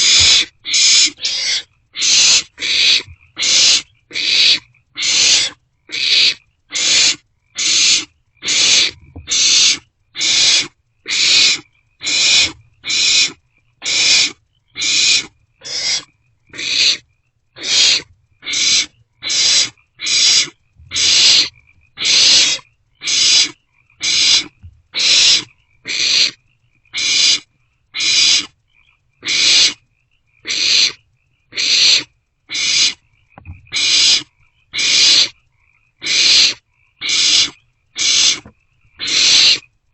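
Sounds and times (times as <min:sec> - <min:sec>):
owlet rasping begging calls: 0:00.0 - 0:17.0, 0:17.6 - 0:28.6, 0:29.2 - 0:29.8, 0:30.4 - 0:35.4, 0:36.0 - 0:39.7.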